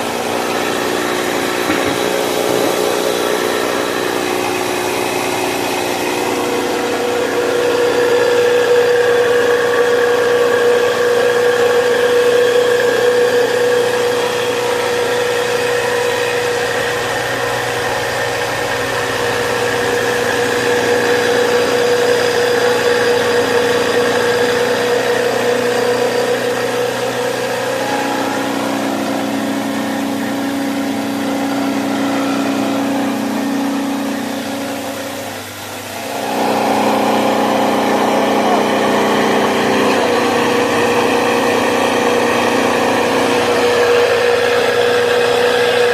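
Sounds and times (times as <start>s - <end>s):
rice mill machine whine: 0.0s - 45.9s.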